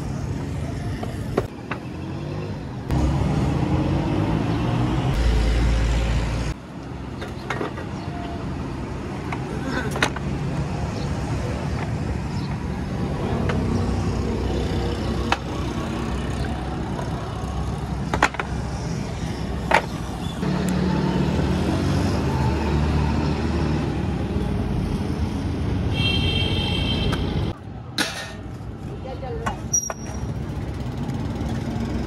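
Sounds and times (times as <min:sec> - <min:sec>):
vehicle engines passing: 0:00.0 - 0:32.0.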